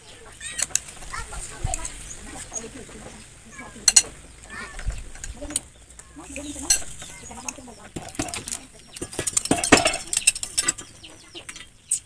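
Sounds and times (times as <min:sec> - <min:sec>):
snail shells clicking on grill: 0:00.4 - 0:02.2, 0:03.7 - 0:12.0.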